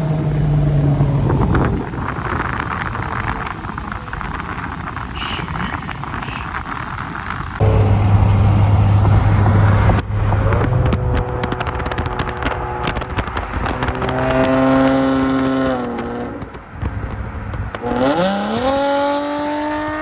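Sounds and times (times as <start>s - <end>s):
car engine revving: 0.0s - 20.0s
engine crackles: 0.0s - 20.0s.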